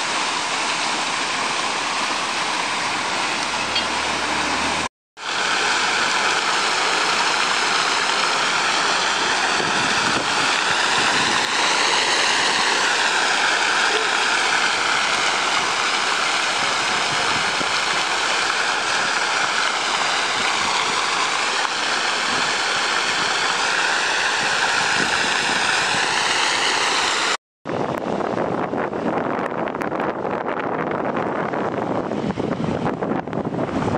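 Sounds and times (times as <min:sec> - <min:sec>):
fountain water splashing: 0:00.0 - 0:33.9.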